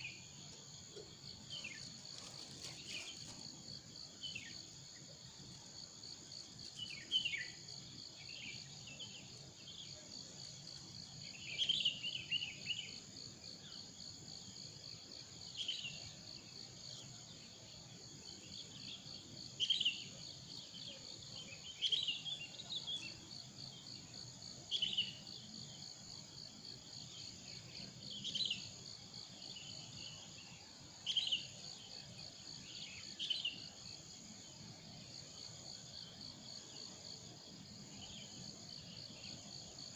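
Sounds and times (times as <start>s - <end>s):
insects pulsing chorus: 0.0s - 39.9s.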